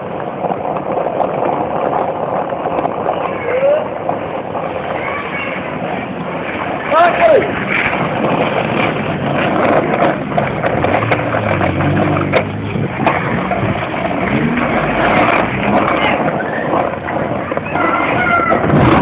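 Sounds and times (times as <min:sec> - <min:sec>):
skateboard clacks and knocks: 0:00.0 - 0:19.0
skateboard wheels rolling on asphalt: 0:00.0 - 0:19.0.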